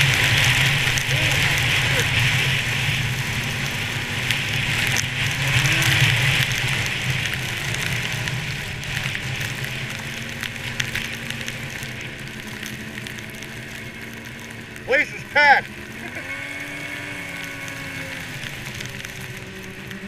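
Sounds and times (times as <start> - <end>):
rush of wind and snow: 0.0 - 20.0
snowmobile engine running: 0.0 - 20.0.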